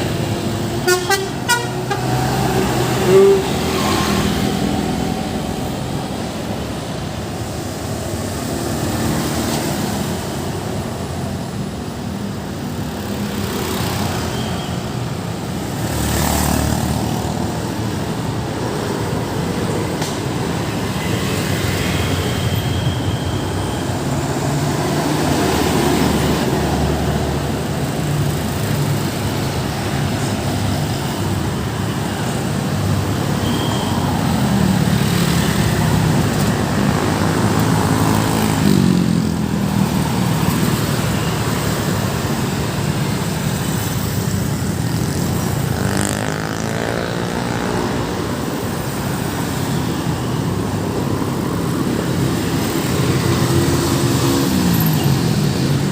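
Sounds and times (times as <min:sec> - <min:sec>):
road traffic passing: 0:00.0 - 0:55.9
vehicles sweeping past: 0:00.0 - 0:55.9.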